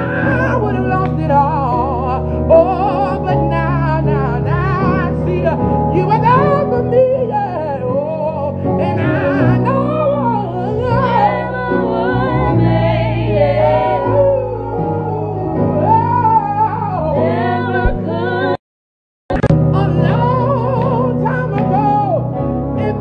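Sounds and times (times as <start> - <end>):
men singing gospel: 0.0 - 18.6, 19.7 - 23.0.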